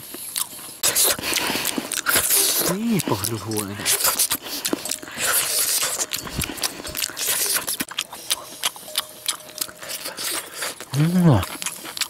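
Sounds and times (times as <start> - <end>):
chewing and mouth smacking: 0.0 - 12.0.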